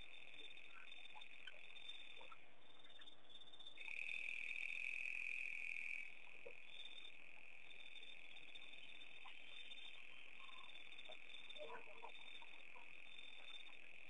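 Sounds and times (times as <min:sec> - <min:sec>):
frogs and insects chorus: 0:00.0 - 0:14.0.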